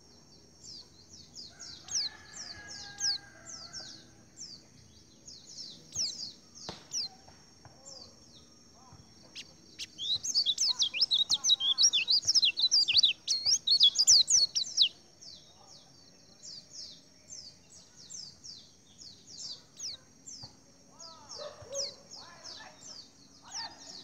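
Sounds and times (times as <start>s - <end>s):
birds twittering warble: 0.0s - 24.0s.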